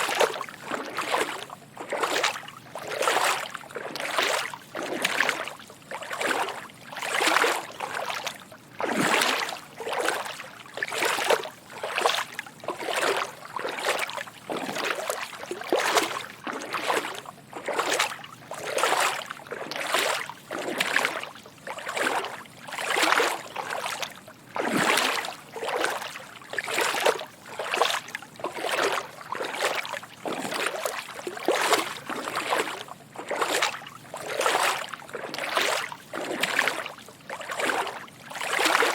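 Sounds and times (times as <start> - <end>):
footsteps wading through water: 0.0 - 38.9.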